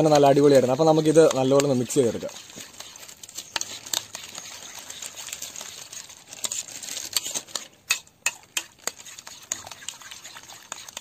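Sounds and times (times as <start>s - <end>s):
chips rustling and scraping: 0.0s - 11.0s
spoon stirring in a bowl: 0.0s - 11.0s.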